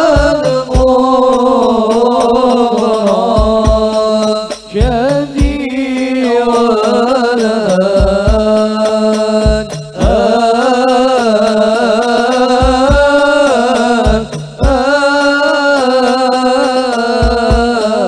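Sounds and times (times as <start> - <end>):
frame drums: 0.0 - 18.0
person singing melismatic vocals: 0.0 - 18.0.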